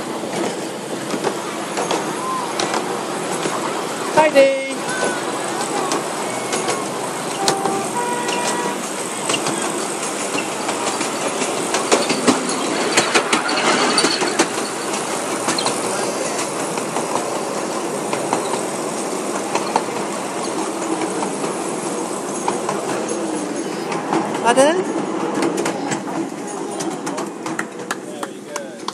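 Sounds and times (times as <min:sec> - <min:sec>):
miniature train rolling: 0:00.0 - 0:28.9
wheels clicking over rail joints: 0:00.0 - 0:28.9.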